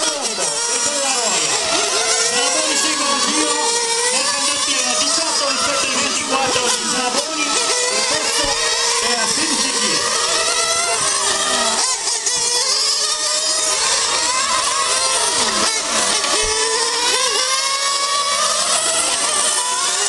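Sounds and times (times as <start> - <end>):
model car engines whining: 0.0 - 20.0.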